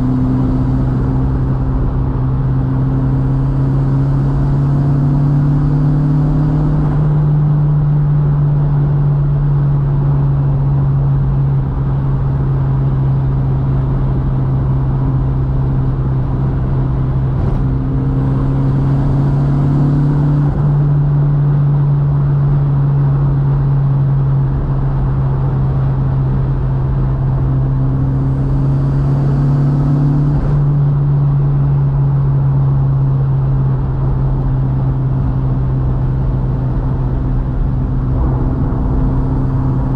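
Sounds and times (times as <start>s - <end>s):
car engine droning: 0.0s - 39.9s
road and tyre noise: 0.0s - 39.9s.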